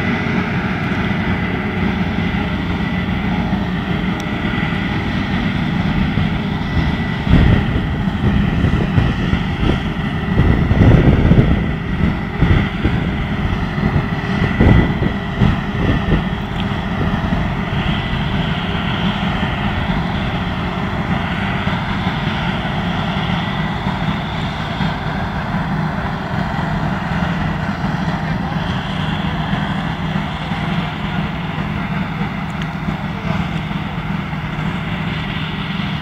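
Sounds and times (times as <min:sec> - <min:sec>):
harvester engine drone: 0:00.0 - 0:36.0
steady high whine: 0:00.0 - 0:36.0
wind buffeting microphone: 0:00.0 - 0:36.0.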